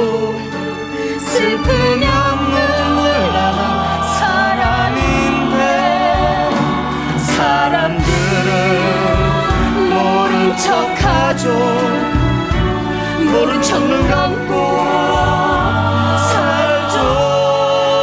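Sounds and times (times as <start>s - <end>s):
instrumental accompaniment: 0.0s - 18.0s
voices singing a slow ballad: 0.0s - 18.0s.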